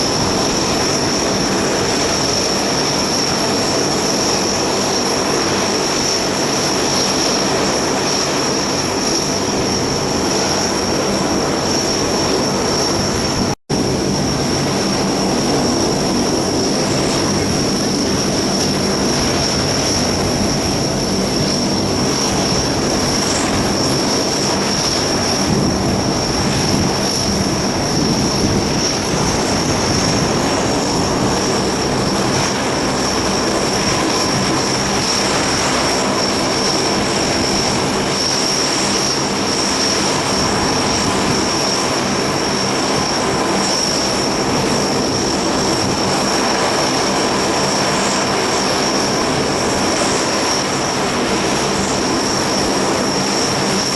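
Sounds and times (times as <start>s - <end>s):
high-pitched turbine whine: 0.0s - 53.9s
turboprop engines roaring: 0.0s - 53.9s.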